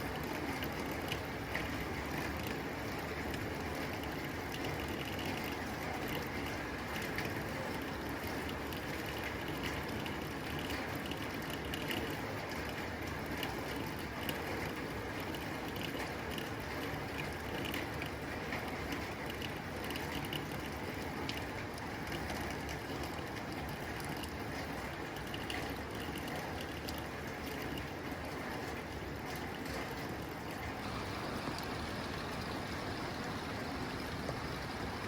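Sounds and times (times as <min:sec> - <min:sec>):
heavy rain on a tin roof: 0:00.0 - 0:35.0.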